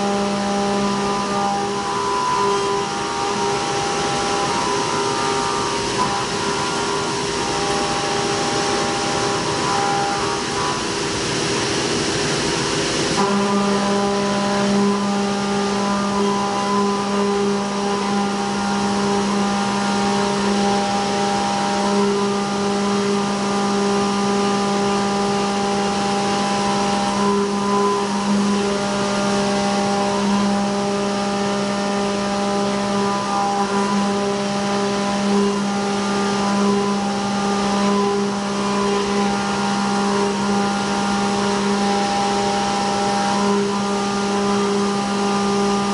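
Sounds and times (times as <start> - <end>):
mill cutting tone: 0.0 - 45.9.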